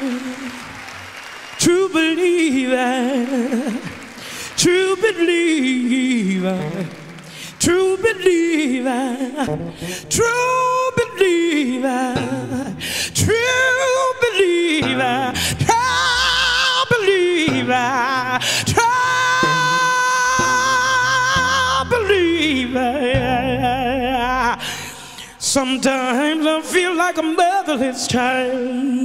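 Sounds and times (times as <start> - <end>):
woman singing gospel: 1.6 - 4.0, 7.6 - 29.0.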